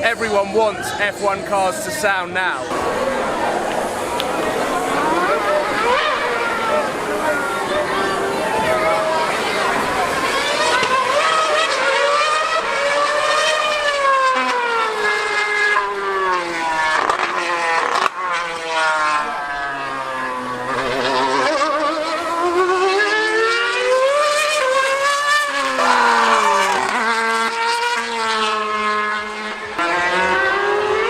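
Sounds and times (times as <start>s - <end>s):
racing car engine screaming: 0.0s - 31.0s.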